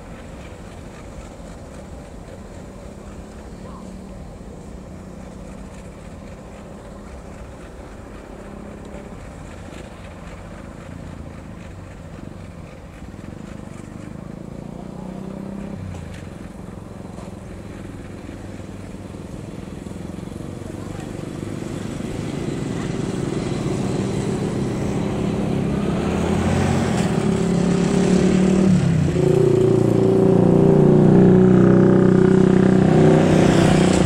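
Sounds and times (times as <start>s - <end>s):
diesel locomotive engine: 0.0s - 34.0s.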